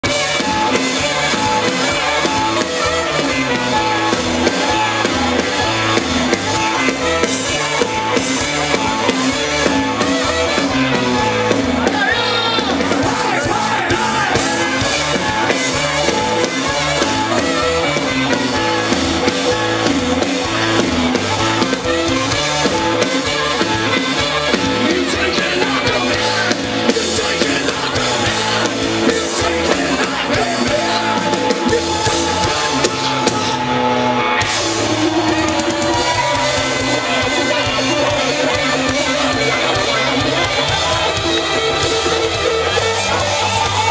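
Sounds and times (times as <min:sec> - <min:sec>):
person singing: 0:00.0 - 0:33.8, 0:34.4 - 0:43.9
drum kit beat: 0:00.0 - 0:43.9
rock band playing: 0:00.0 - 0:43.9.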